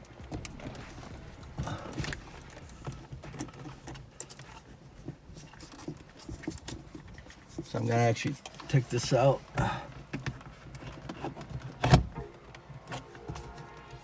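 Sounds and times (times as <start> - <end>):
plastic parts clicking and tapping: 0.0 - 13.9.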